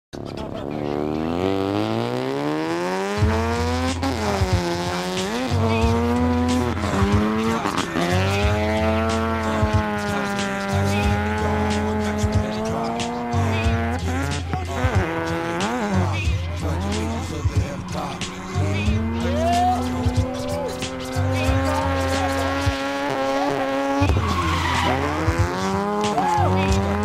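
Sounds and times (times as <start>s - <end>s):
tires squealing: 0.3s - 27.0s
car engine revving hard: 0.4s - 27.0s.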